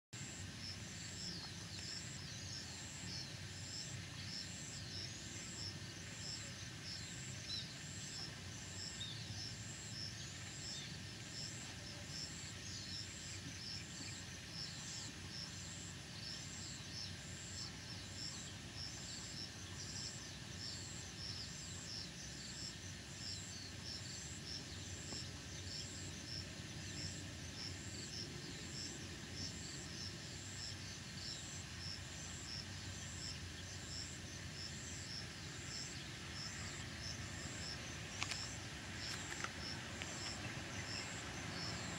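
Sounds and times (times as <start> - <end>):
cicadas and insects calling: 0.2 - 41.9.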